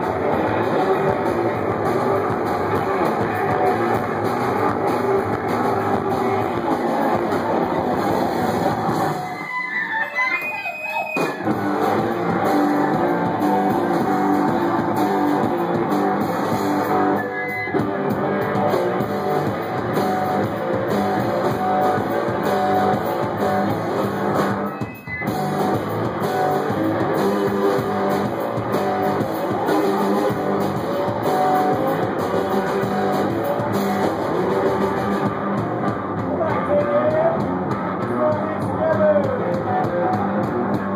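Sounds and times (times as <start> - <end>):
drum kit: 0.0 - 40.9
electric guitar played hard: 0.0 - 40.9.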